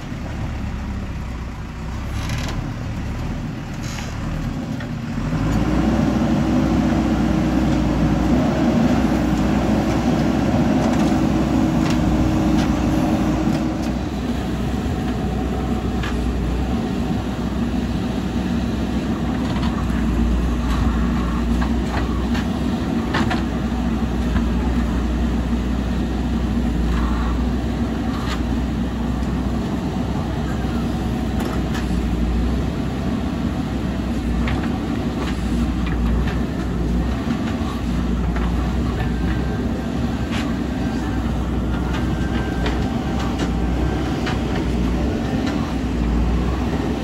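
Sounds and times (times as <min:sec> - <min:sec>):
heavy machinery diesel engine: 0:00.0 - 0:47.0.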